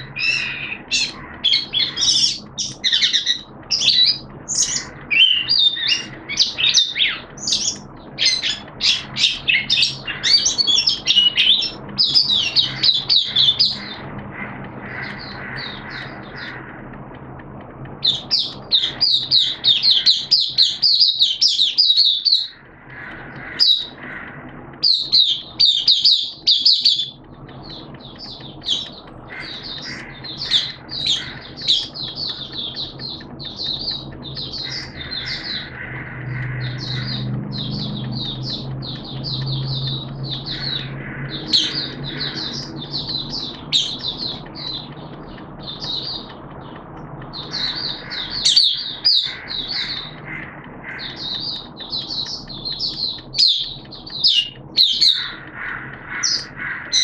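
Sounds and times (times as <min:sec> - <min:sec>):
bird twittering song: 0:00.0 - 0:57.0
low hum: 0:00.0 - 0:57.0.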